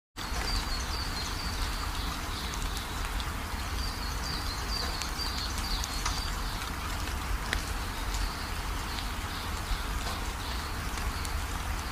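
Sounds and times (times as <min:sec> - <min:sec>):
rain hiss: 0:00.2 - 0:11.9.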